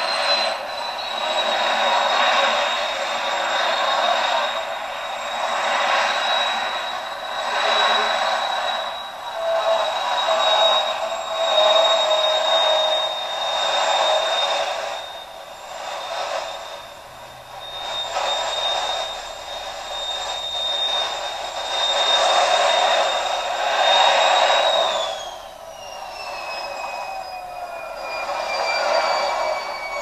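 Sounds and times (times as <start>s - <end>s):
high whine: 0.0s - 30.0s.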